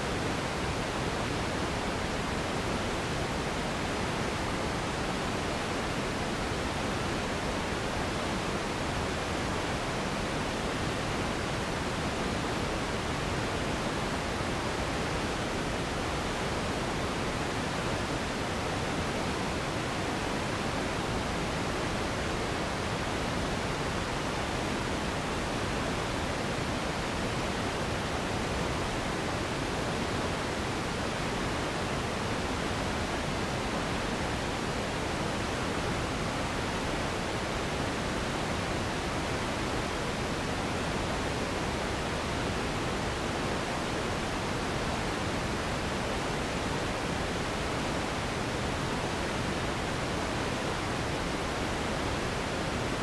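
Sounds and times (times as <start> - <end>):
steady pink noise hiss: 0.0 - 53.0.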